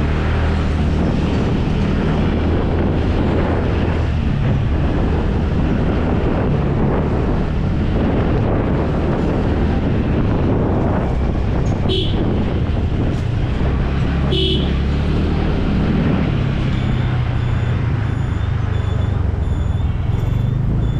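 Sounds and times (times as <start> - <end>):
wind rushing over microphone: 0.0 - 20.8.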